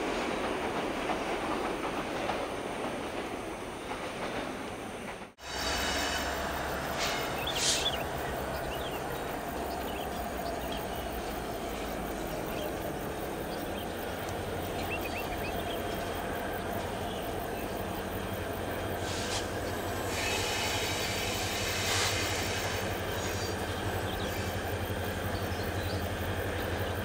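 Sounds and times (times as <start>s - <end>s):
diesel locomotive engine drone: 0.0s - 27.0s.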